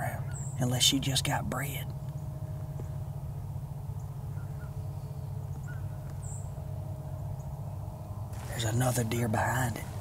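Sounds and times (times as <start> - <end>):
faint bird calls: 0.0 - 10.0.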